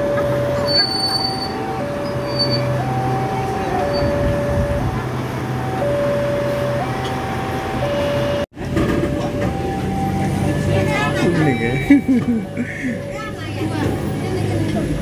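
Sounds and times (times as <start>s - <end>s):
level crossing two-tone alarm: 0.0s - 8.5s, 9.1s - 14.1s
passing train rumble: 0.0s - 15.0s.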